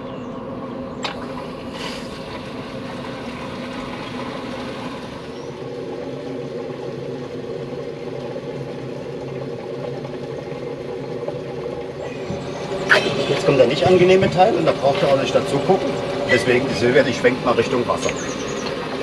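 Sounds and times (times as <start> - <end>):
motorhome engine idling: 0.0 - 19.0.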